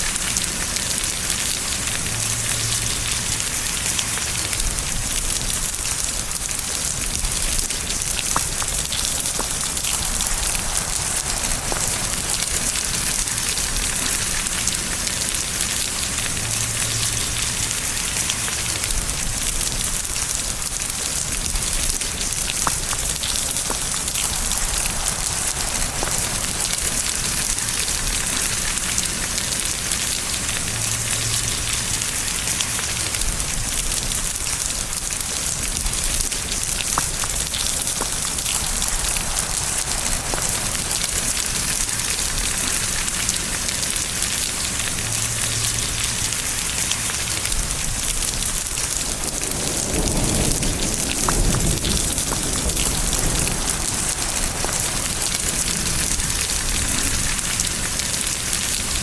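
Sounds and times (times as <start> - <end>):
thunder rumble: 0.0 - 44.3, 47.4 - 59.0
rain pattering: 0.0 - 59.0.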